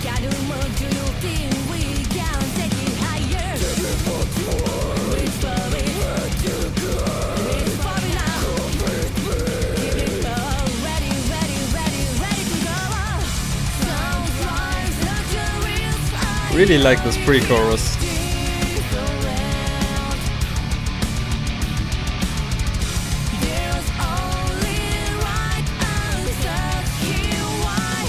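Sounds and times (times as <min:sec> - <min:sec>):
woman singing: 0:00.0 - 0:20.3, 0:23.4 - 0:28.0.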